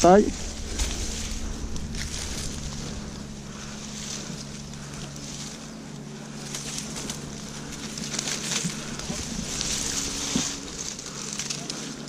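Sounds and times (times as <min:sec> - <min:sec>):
bees humming: 0:00.0 - 0:12.0
even hiss: 0:00.0 - 0:12.0
leaves and branches rustling: 0:00.0 - 0:12.0.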